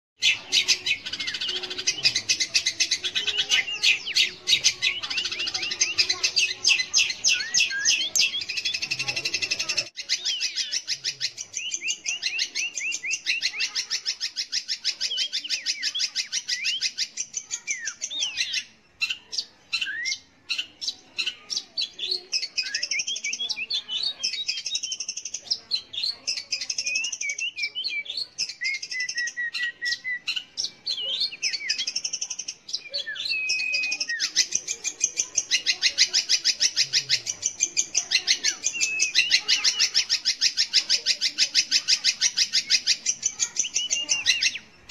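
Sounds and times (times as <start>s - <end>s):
bird singing fast chatter: 0.2s - 44.9s.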